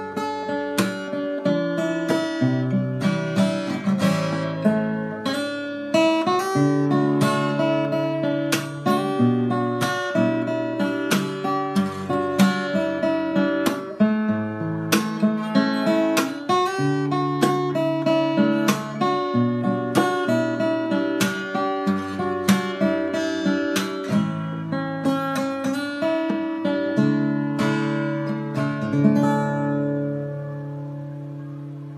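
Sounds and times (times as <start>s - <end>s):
fingerpicked acoustic guitar: 0.0s - 31.9s.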